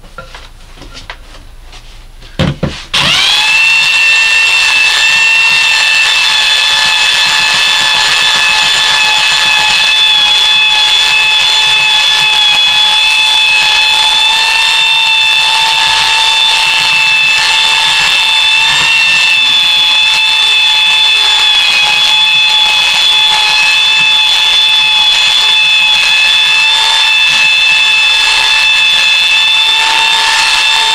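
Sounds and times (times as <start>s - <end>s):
belt sander whining: 2.9s - 30.9s.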